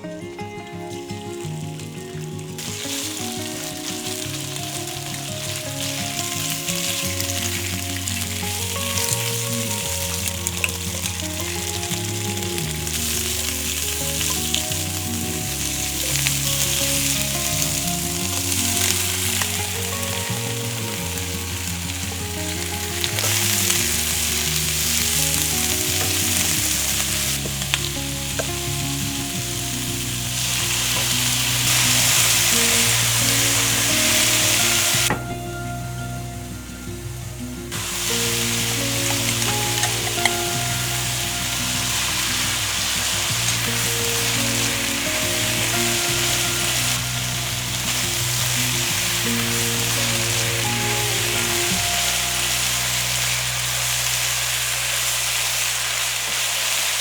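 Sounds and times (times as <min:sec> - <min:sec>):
background music with bass: 0:00.0 - 0:57.0
food sizzling in hot oil: 0:00.2 - 0:57.0.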